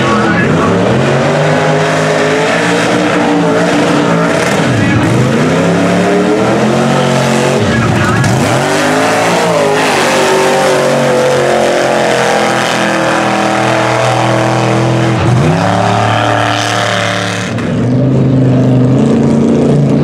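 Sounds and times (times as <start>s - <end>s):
truck engines revving high: 0.0s - 20.0s.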